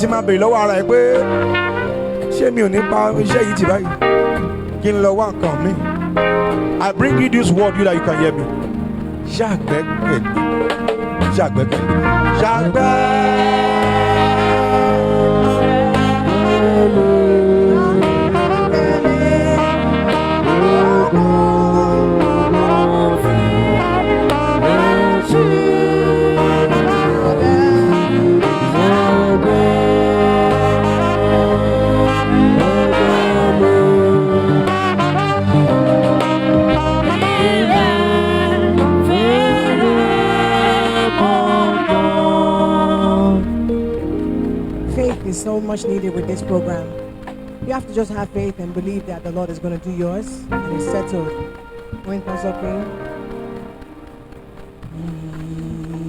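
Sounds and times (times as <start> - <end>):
instrumental music with sustained melody: 0.0 - 54.9.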